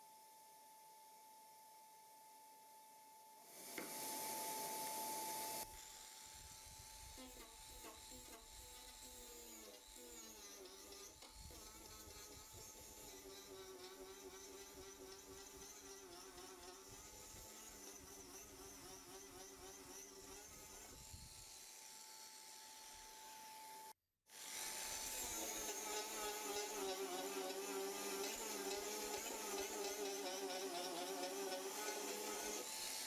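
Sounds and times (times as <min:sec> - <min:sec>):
rotary sander buzzing whine: 0:03.5 - 0:33.0.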